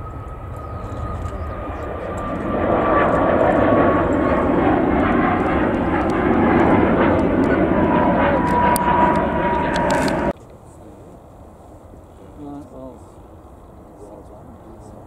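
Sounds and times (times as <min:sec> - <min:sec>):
high engine whine: 0:00.0 - 0:15.0
jet engines roaring at take-off: 0:00.0 - 0:15.0.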